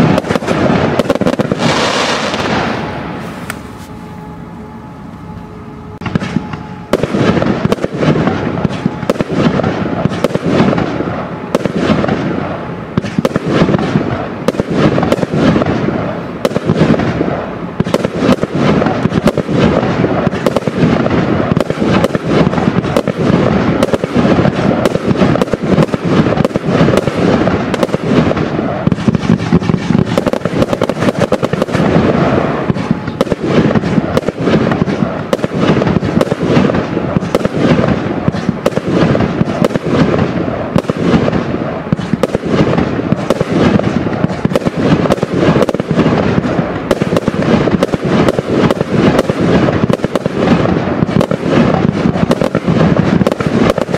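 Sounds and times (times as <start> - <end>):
fireworks barrage firing: 0.0 - 53.9.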